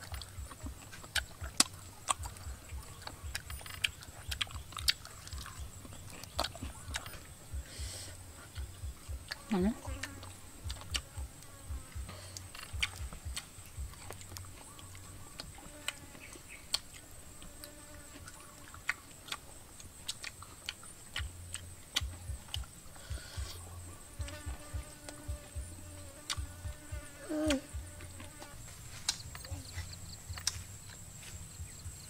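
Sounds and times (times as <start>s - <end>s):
crunchy food clicks: 0.0s - 7.8s, 8.4s - 32.0s
chewing and mouth smacks: 0.0s - 31.1s.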